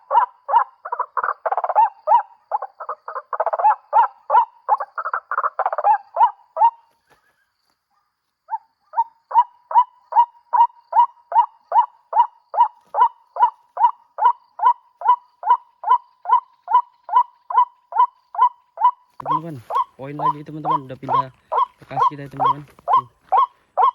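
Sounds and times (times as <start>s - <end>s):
waterhen call: 0.0s - 6.9s, 9.3s - 23.9s.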